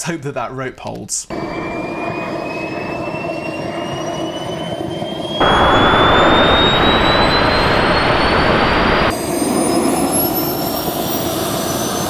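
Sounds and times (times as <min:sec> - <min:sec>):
jet turbine spooling up: 0:01.3 - 0:12.0.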